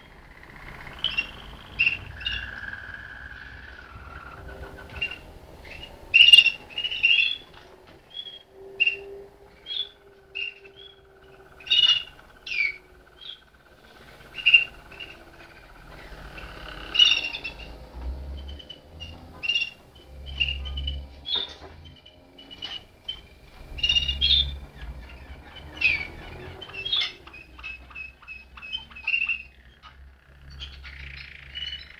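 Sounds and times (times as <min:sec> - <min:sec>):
canaries chirping: 0:00.0 - 0:31.9
low rolling trill: 0:00.0 - 0:31.9.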